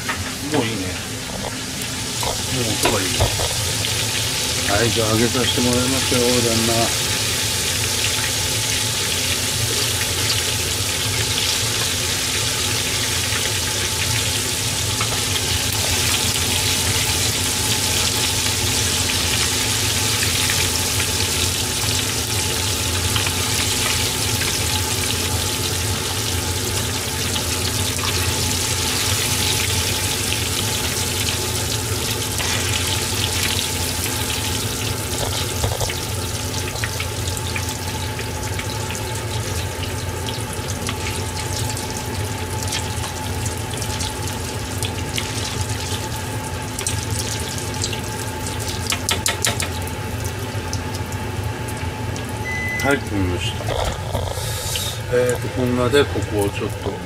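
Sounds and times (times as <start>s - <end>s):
fish sizzling in oil: 0.0s - 56.8s.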